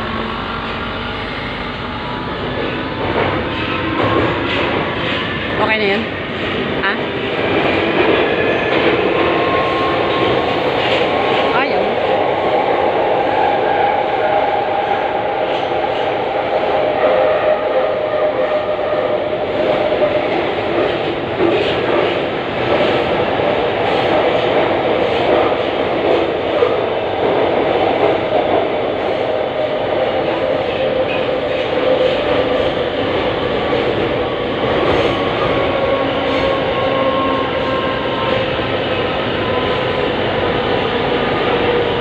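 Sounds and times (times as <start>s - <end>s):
metro train wheels rumbling: 0.0s - 42.0s.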